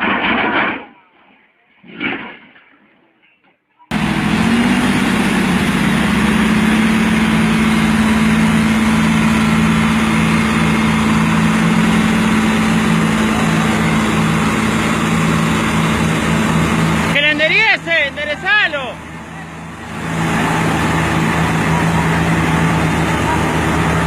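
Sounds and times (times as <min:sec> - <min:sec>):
heavy vehicle engine running: 0:03.9 - 0:24.0.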